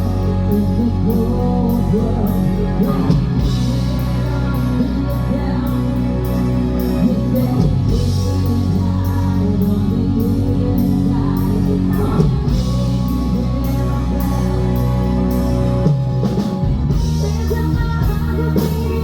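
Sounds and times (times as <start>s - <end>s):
person singing: 0.0s - 19.0s
rock band playing live: 0.0s - 19.0s.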